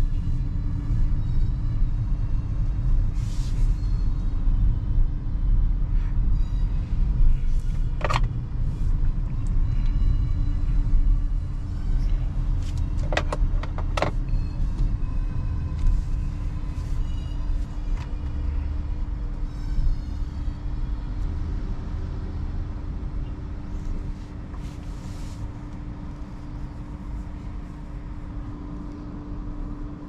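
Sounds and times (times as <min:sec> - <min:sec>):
road and tyre rumble: 0:00.0 - 0:30.0.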